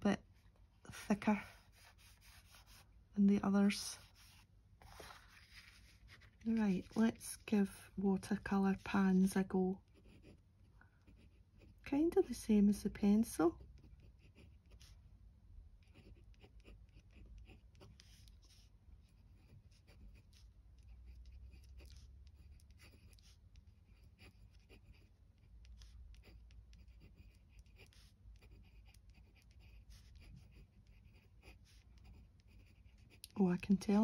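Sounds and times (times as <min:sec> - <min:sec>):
pen nib scratching on paper: 0:01.0 - 0:10.4, 0:11.0 - 0:15.0, 0:15.8 - 0:34.0.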